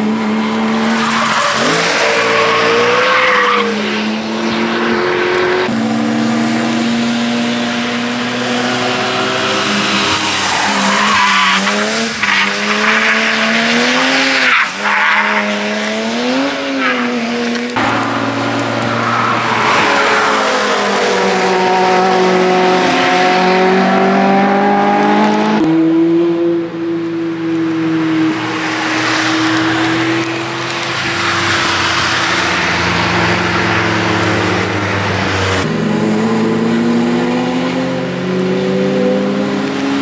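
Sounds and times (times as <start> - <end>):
sports car engines revving: 0.0 - 40.0.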